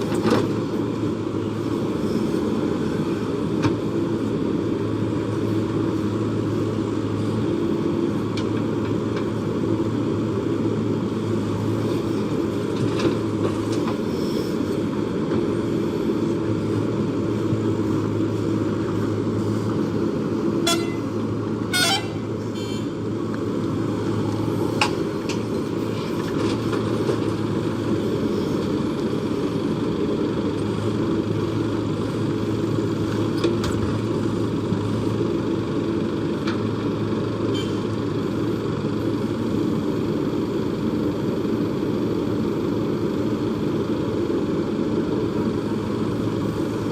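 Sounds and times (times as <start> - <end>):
backhoe diesel engine running: 0.0 - 46.9.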